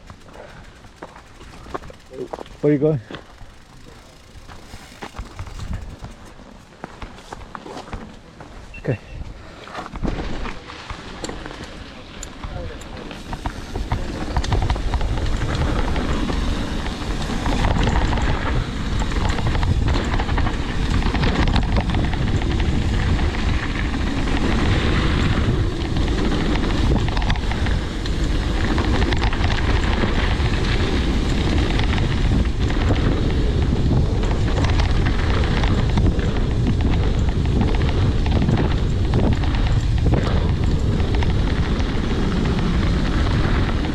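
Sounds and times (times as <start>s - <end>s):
wind buffeting microphone: 0.0s - 6.5s, 12.4s - 43.9s
mountain bike rumbling downhill: 0.0s - 43.9s.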